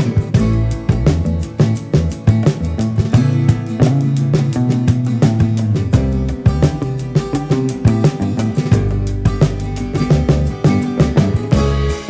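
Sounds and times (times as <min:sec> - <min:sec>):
bass line: 0:00.0 - 0:12.0
plucked guitar notes: 0:00.0 - 0:12.0
steady beat: 0:00.0 - 0:12.0
upbeat instrumental music: 0:00.0 - 0:12.0.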